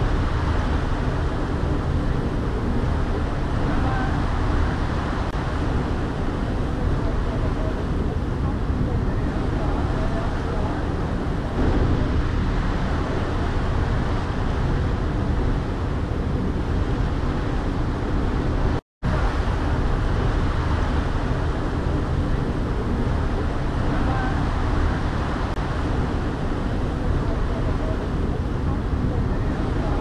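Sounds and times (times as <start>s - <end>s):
churning wake water: 0.0s - 30.0s
ferry engine rumble: 0.0s - 30.0s.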